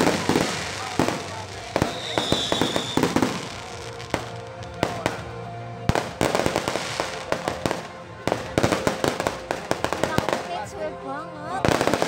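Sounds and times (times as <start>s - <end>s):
fireworks bangs and crackles: 0.0s - 10.8s, 11.6s - 12.0s
background music: 0.0s - 12.0s.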